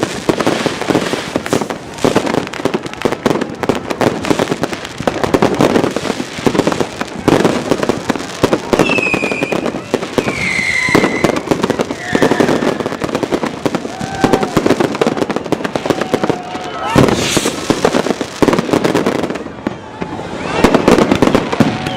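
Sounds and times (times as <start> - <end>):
fireworks and firecrackers banging: 0.0 - 21.9
high whistling fireworks: 0.0 - 21.9.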